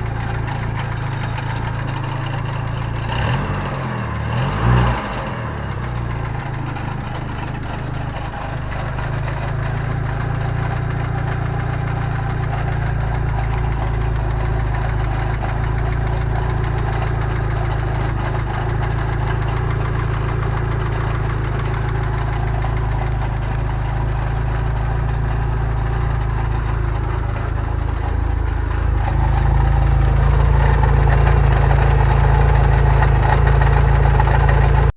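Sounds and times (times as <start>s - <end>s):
engine idling with rattle: 0.0s - 34.9s.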